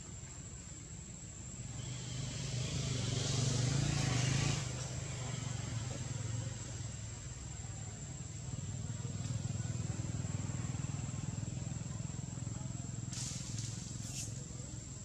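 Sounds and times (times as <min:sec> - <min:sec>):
vehicle engine running: 0:00.8 - 0:15.0.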